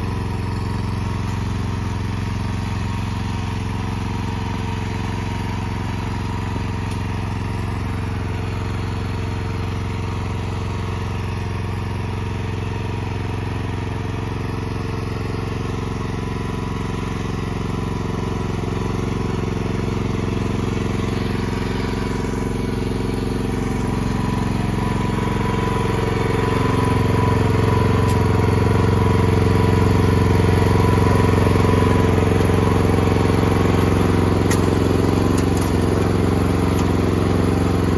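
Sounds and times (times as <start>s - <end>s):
snowblower engine running: 0.0s - 37.9s.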